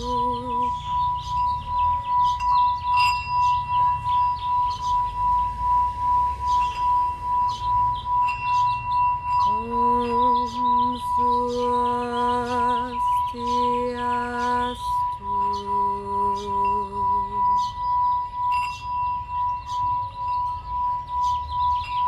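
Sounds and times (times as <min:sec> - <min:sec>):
birds chirping faintly: 0:00.0 - 0:22.0
singing bowl ringing tone: 0:00.0 - 0:22.0.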